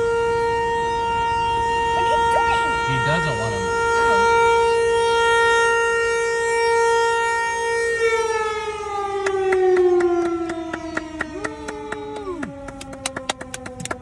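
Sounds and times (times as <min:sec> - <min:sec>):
warning siren: 0:00.0 - 0:14.0.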